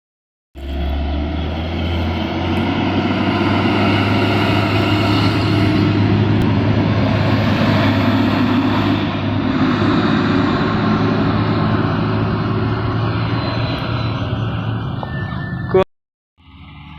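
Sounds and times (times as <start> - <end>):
vehicle engine running uphill: 0.6 - 15.8, 16.4 - 16.9.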